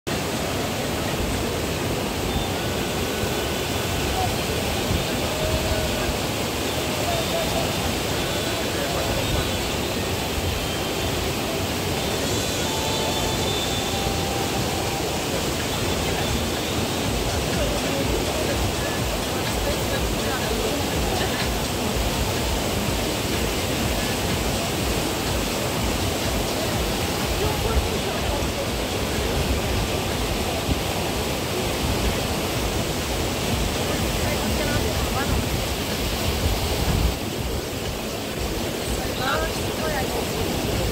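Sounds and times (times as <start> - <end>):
whitewater rushing: 0.1 - 40.9.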